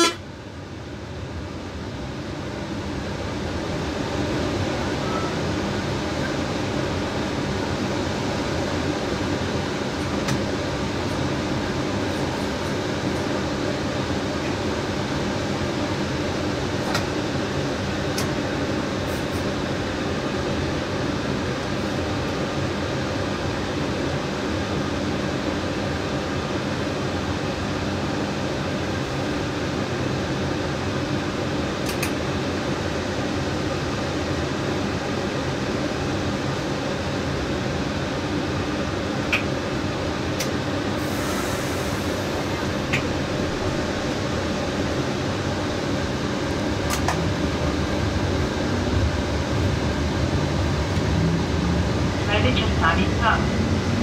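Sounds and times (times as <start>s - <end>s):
train ventilation hum: 0.0s - 54.0s.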